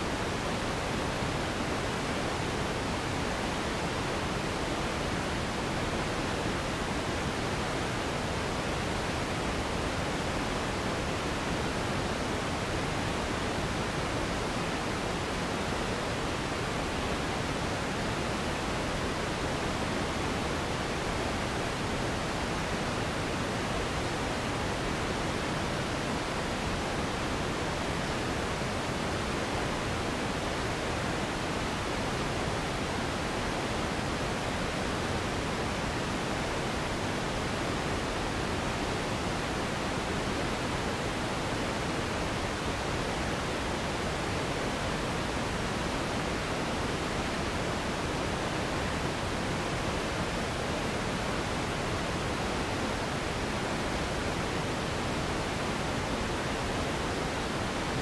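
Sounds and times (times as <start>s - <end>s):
steady hiss noise: 0.0s - 58.0s.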